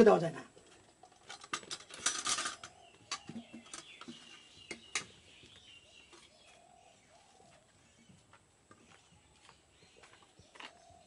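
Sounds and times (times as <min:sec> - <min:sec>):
birds calling faintly: 0:00.0 - 0:11.0.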